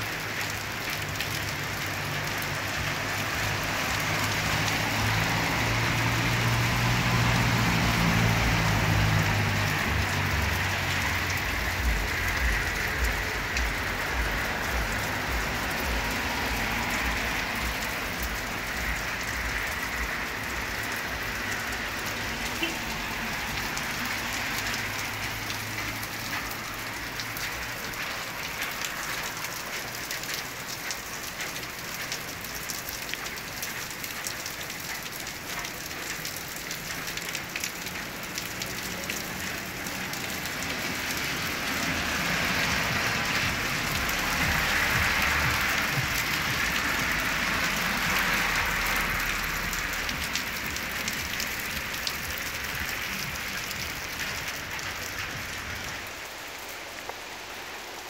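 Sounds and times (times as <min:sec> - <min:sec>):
rain falling on wet street: 0:00.0 - 0:58.0.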